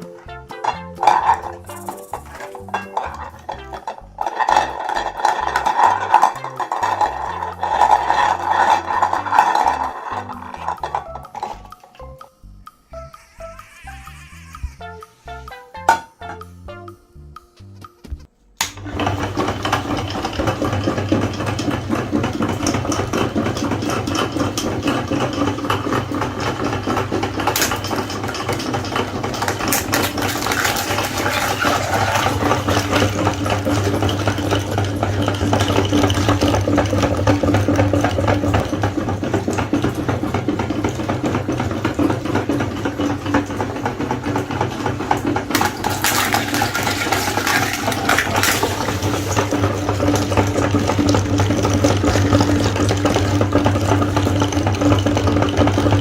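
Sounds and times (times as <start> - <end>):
electric meat grinder running: 1.0 - 11.6, 13.1 - 14.8, 18.6 - 56.0.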